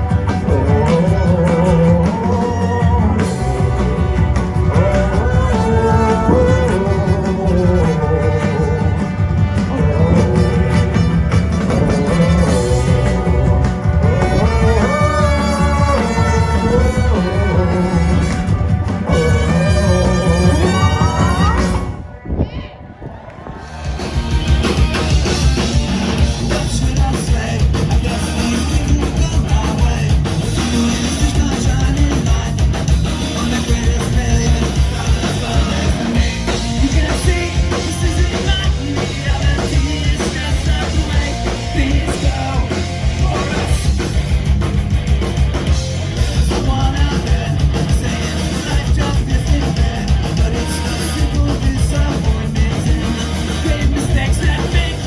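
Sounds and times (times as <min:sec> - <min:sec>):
driving drum kit: 0:00.0 - 0:22.0, 0:23.6 - 0:55.0
rock band playing loudly: 0:00.0 - 0:22.1, 0:23.6 - 0:55.0
person singing: 0:00.0 - 0:22.6, 0:23.6 - 0:44.2, 0:46.4 - 0:55.0.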